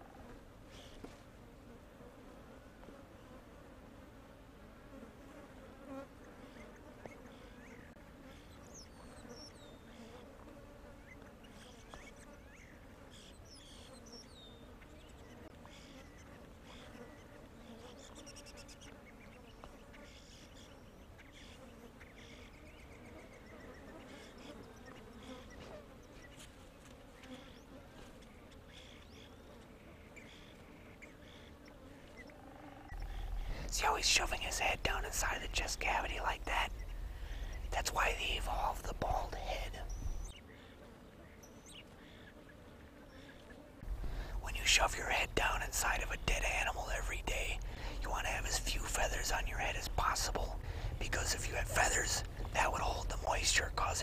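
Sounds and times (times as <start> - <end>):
flies buzzing: 0.0 - 54.0.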